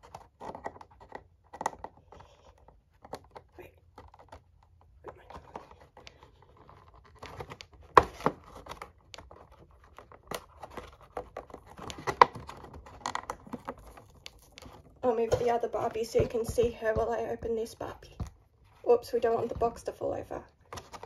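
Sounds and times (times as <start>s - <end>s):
plastic box crinkling and clicks: 0.0s - 16.6s, 20.5s - 21.0s.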